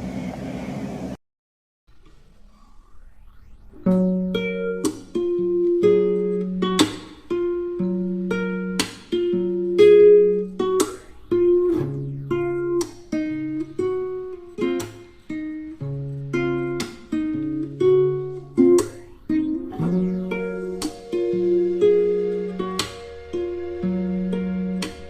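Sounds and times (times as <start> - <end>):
acoustic guitar playing: 3.8 - 25.0.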